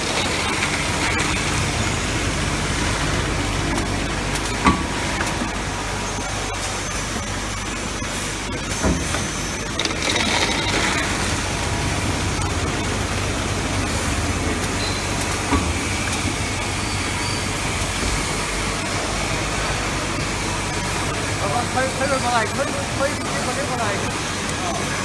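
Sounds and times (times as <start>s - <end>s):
machine hum and rattle: 0.0s - 25.0s.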